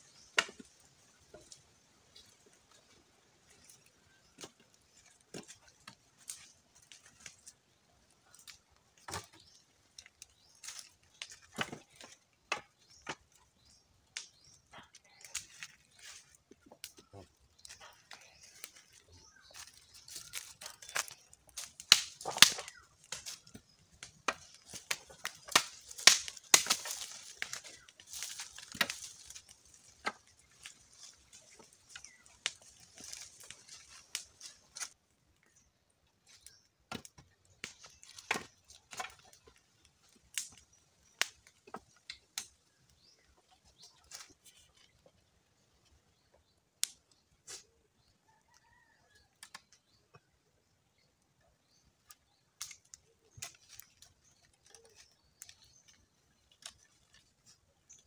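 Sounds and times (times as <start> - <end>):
fire crackling and popping: 0.0 - 45.6, 46.2 - 47.6, 51.0 - 58.0.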